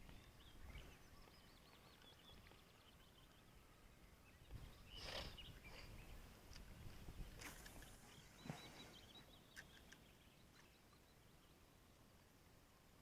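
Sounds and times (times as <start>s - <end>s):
faint birdsong trilling: 0.0s - 6.4s, 7.1s - 12.2s.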